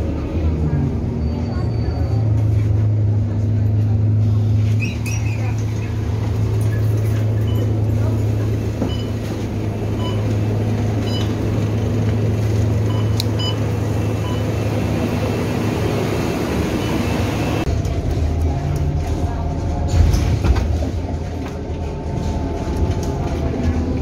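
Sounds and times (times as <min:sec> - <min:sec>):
bus engine droning: 0:00.0 - 0:24.0.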